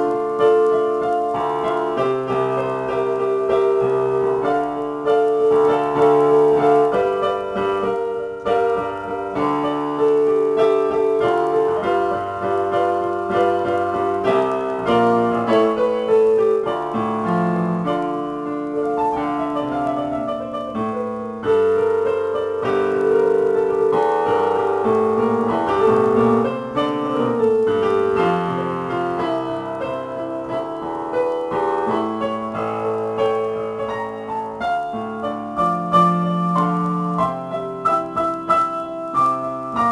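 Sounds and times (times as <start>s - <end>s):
digital piano playing: 0.0s - 39.9s.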